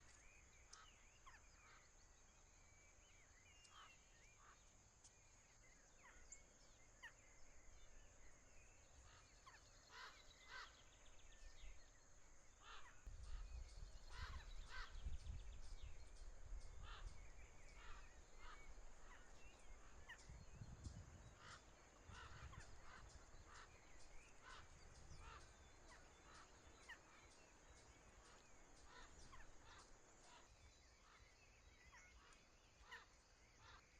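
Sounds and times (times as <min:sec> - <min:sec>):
wild birds chirping: 0:00.0 - 0:33.9.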